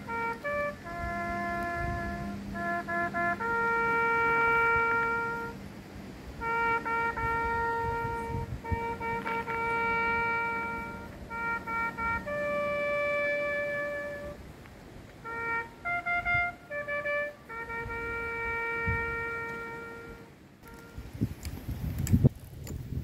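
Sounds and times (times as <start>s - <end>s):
solo trumpet call: 0.0s - 5.7s, 6.3s - 14.6s, 15.2s - 21.3s.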